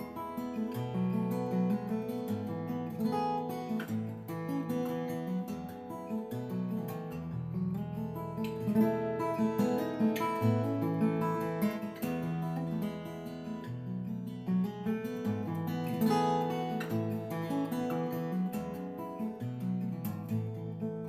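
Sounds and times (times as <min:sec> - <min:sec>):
solo acoustic guitar: 0:00.0 - 0:21.0.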